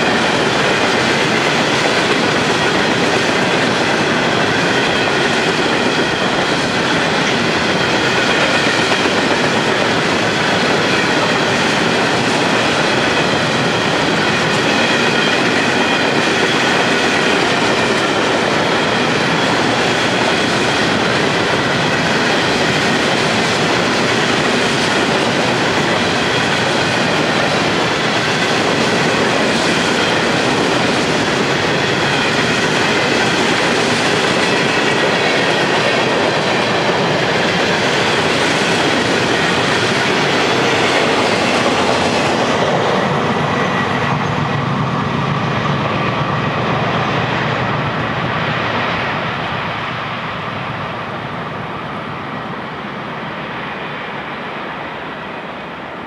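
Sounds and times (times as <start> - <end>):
train wheels clickety-clack: 0.0 - 55.9.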